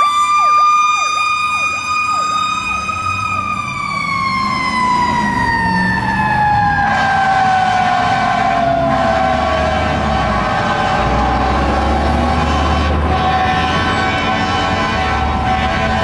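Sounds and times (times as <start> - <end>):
fire truck siren wailing: 0.0 - 16.0
truck engine rumble: 0.0 - 16.0.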